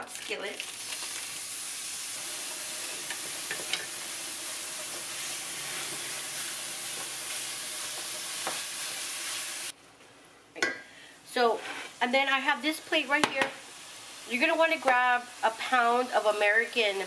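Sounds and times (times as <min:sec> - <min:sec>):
meat sizzling in a skillet: 0:00.0 - 0:09.7, 0:11.6 - 0:17.0.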